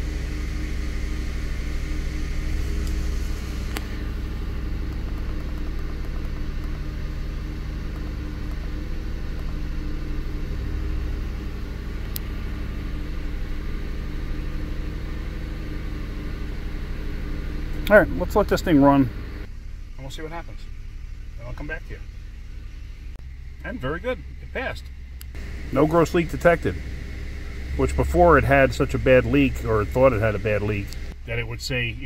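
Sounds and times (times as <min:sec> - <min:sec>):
car engine high idle: 0:00.0 - 0:32.0.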